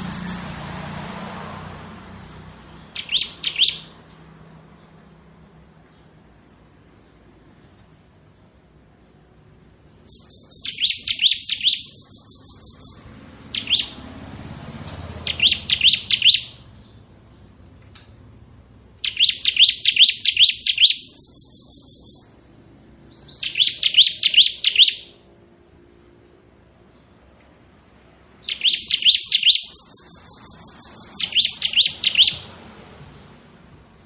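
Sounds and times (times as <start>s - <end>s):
bird singing rapid trill: 0.0s - 0.7s, 2.2s - 7.6s, 8.2s - 32.6s.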